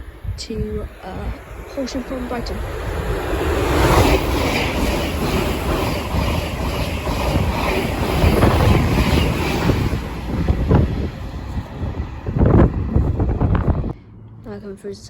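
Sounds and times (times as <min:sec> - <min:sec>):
train wheel-on-rail rush: 0:00.0 - 0:15.0.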